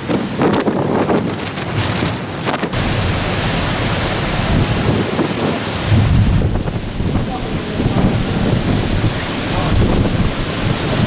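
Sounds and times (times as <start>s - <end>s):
hurricane wind roaring: 0.0s - 11.0s
wind buffeting microphone: 0.0s - 11.0s
wind-driven rain: 0.0s - 11.0s.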